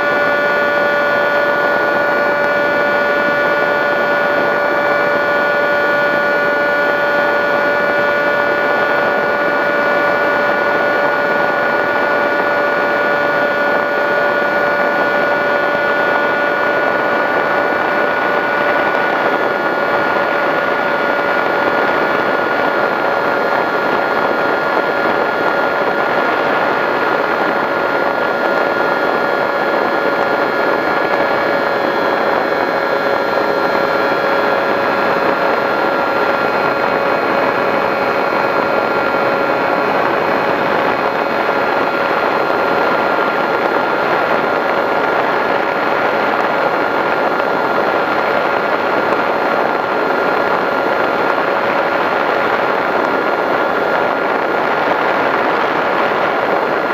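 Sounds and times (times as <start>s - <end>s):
electric motor whine: 0.0s - 56.9s
wind noise rushing: 0.4s - 56.9s.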